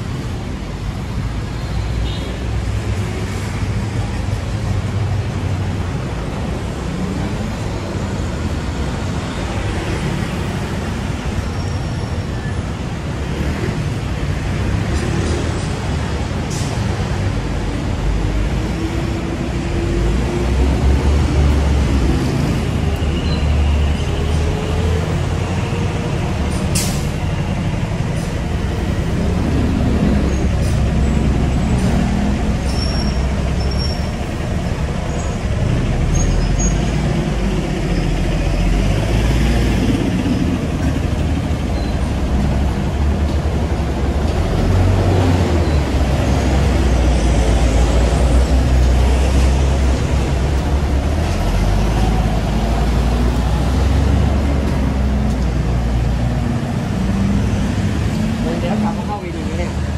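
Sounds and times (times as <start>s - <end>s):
passing vehicle engines: 0.0s - 59.9s.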